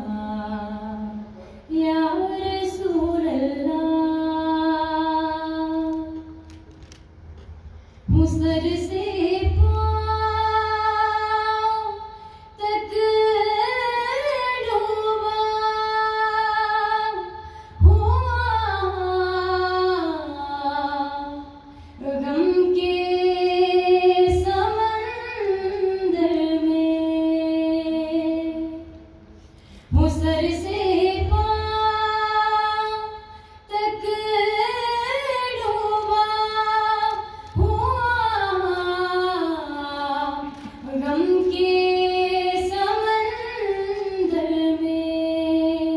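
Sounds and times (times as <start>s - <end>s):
woman singing through microphone: 0.0s - 6.4s, 8.1s - 29.1s, 29.9s - 45.9s.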